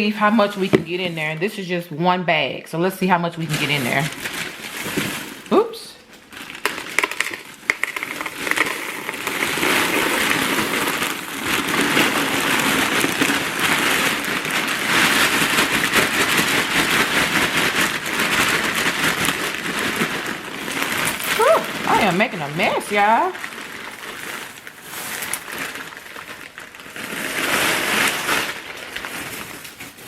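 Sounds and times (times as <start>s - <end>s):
cereal pouring into a container: 3.6s - 30.0s.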